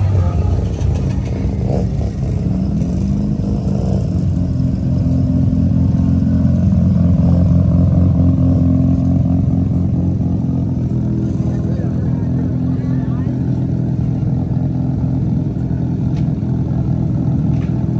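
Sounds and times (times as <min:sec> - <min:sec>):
car engine running: 0:00.0 - 0:17.9.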